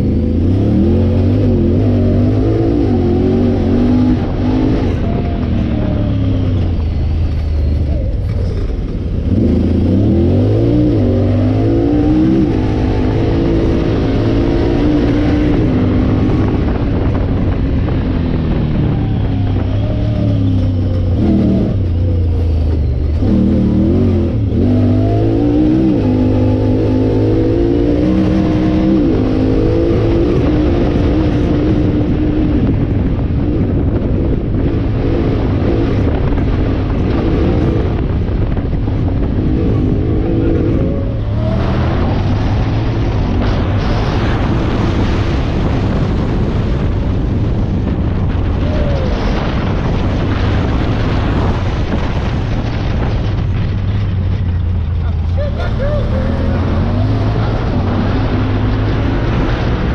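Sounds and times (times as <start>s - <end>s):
engine revving under load: 0.0s - 59.9s.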